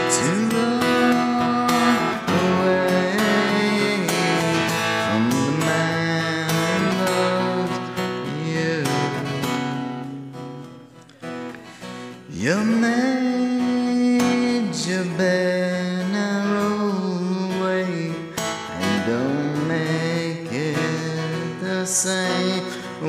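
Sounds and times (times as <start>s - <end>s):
song with lead melody: 0.0s - 23.0s.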